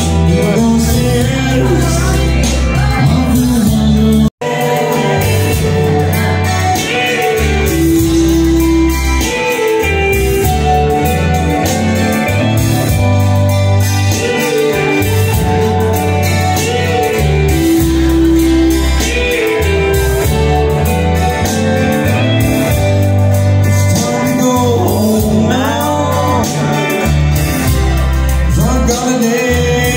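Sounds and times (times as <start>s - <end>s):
bass line: 0.0s - 29.9s
guitar: 0.0s - 29.9s
person singing: 0.0s - 29.9s.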